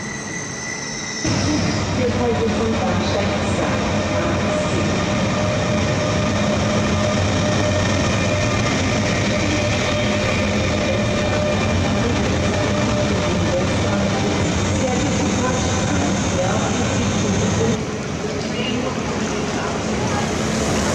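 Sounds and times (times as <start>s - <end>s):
electric train rumble: 0.0s - 20.9s.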